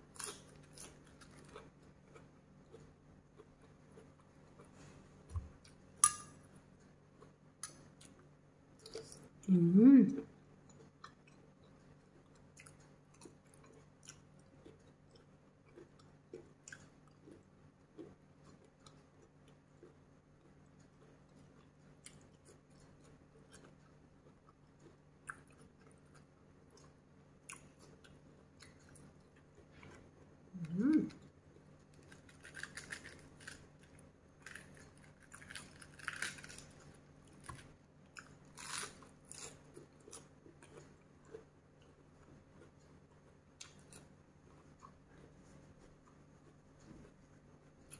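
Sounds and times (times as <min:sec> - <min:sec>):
person chewing: 0:00.0 - 0:09.4, 0:10.6 - 0:47.9.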